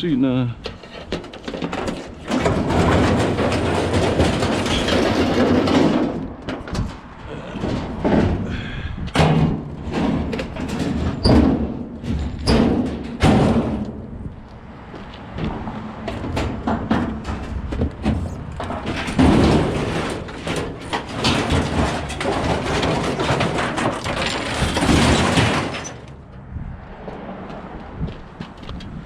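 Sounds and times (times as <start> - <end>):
junk scraping and rattling: 0.6 - 29.0
items thudding and banging down: 0.7 - 14.2, 15.3 - 26.2.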